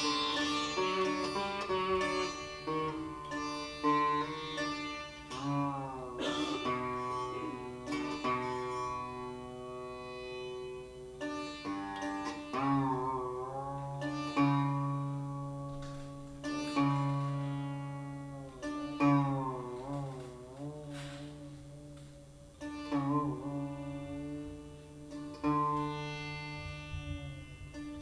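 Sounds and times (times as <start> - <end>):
sitar plucks with bent notes: 0.0 - 28.0.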